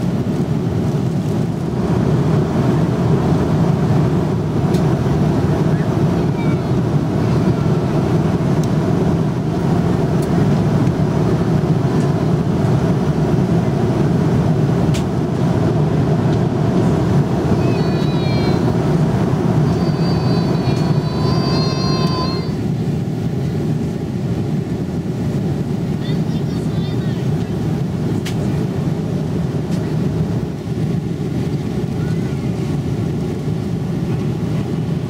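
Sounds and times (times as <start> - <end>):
airliner cabin engine roar: 0.0 - 35.0.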